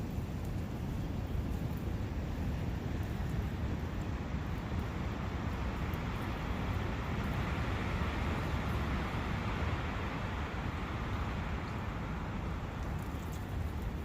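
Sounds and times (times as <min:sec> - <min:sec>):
wind in forest: 0:00.0 - 0:14.0.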